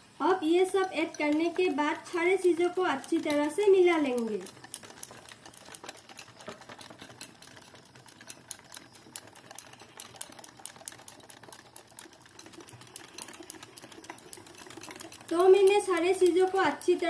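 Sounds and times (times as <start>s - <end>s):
whisk clicking against glass bowl: 0.2s - 17.0s.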